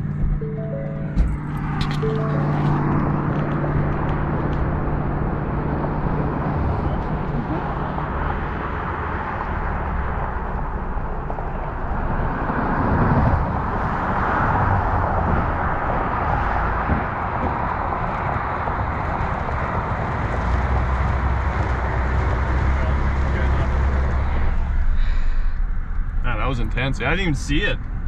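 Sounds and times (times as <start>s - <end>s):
vehicle road and engine noise: 0.0s - 28.0s.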